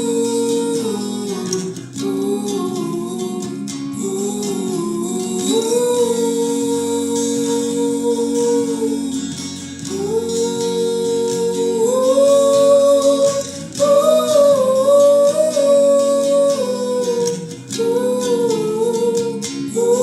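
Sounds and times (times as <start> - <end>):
acoustic guitar: 0.0 - 20.0
person singing wordless notes: 0.0 - 20.0.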